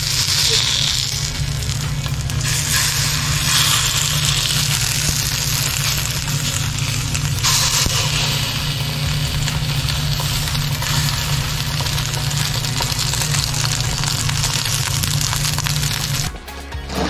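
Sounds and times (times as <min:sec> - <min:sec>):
chicken sizzling in frying pan: 0:00.0 - 0:16.3
low hum: 0:00.0 - 0:16.3.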